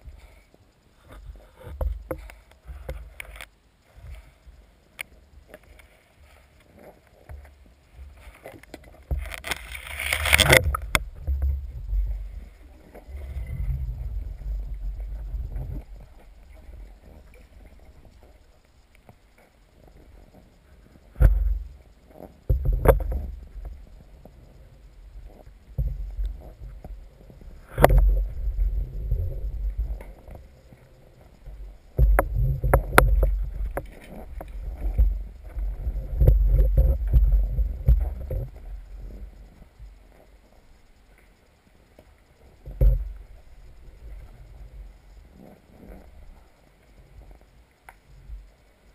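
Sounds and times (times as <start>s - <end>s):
underwater rumbling: 1.0s - 41.2s, 42.2s - 48.6s.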